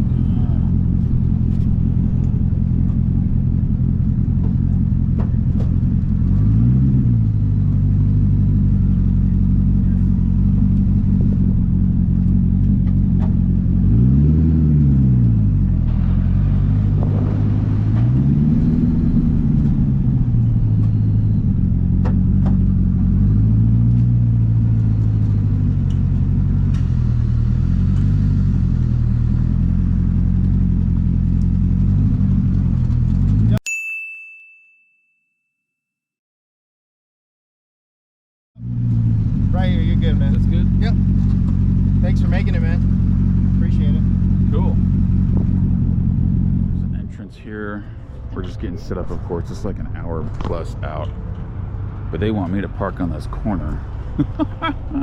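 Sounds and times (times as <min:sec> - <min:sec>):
car engine revving while driven: 0:00.0 - 0:33.6, 0:38.6 - 0:47.2, 0:50.4 - 0:55.0.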